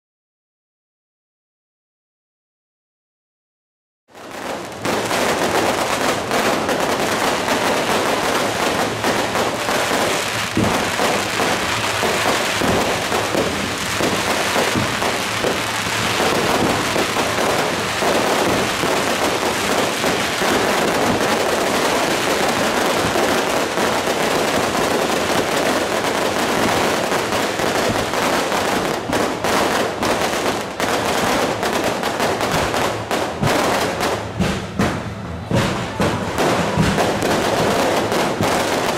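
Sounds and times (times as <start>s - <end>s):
firecrackers crackling: 4.1s - 38.9s.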